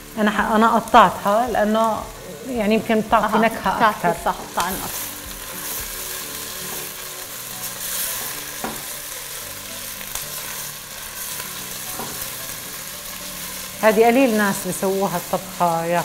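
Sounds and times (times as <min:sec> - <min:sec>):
garlic and onion sizzling in oil: 0:00.0 - 0:16.0.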